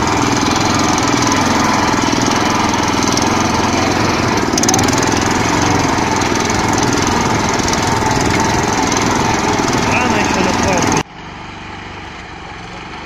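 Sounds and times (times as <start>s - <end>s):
walk-behind tractor engine running: 0.0s - 13.0s.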